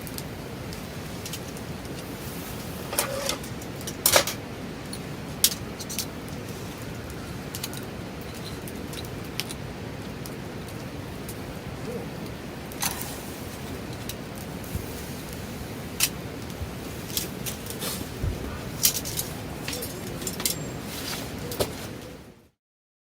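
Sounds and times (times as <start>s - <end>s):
steady background hiss: 0.0s - 22.6s.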